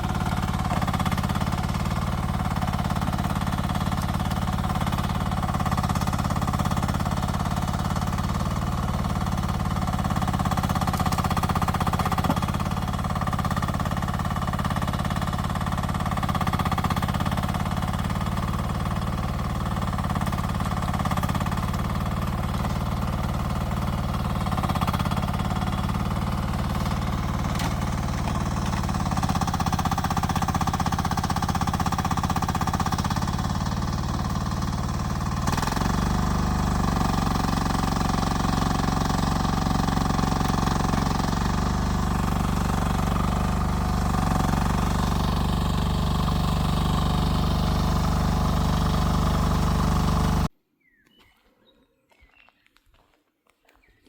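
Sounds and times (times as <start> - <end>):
mini excavator engine running: 0.0 - 50.5.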